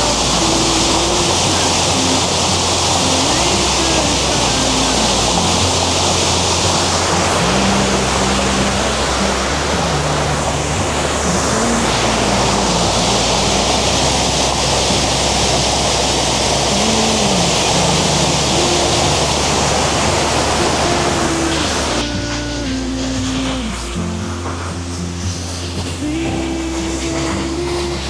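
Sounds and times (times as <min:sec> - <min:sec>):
motorcycle engine rumbling: 0:00.0 - 0:28.0
quiet melodic music: 0:00.0 - 0:28.0
steady rushing noise: 0:00.0 - 0:28.0.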